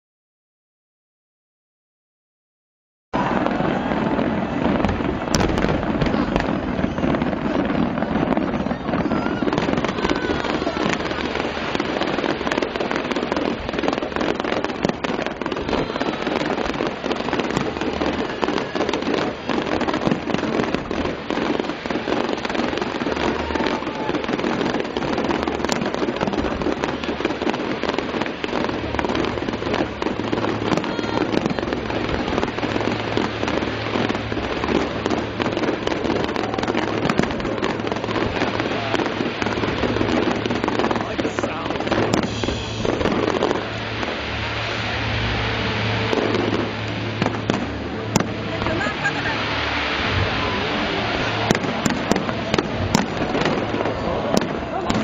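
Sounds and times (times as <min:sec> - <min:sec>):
crowd talking: 0:03.2 - 0:55.0
fireworks bursting and crackling: 0:03.2 - 0:55.0.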